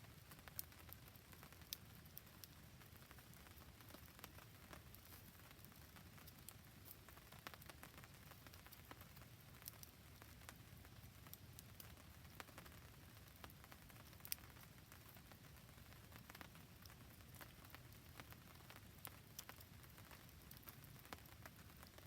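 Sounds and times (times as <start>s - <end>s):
campfire crackling: 0.1s - 22.0s.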